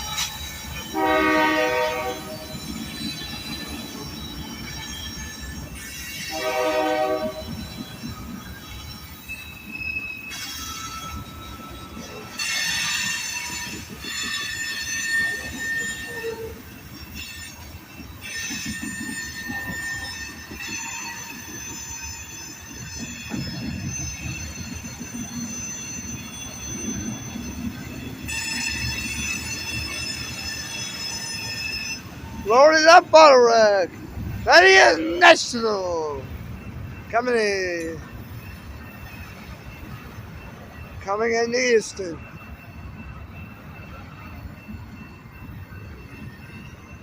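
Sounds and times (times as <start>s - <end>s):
freight train rumbling past: 0.0s - 47.0s
train wheels squealing: 0.0s - 47.0s.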